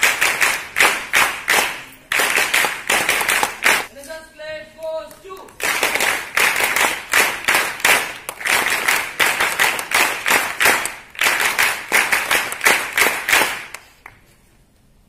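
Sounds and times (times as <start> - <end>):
rhythmic hand clapping: 0.0 - 3.9, 5.1 - 14.2.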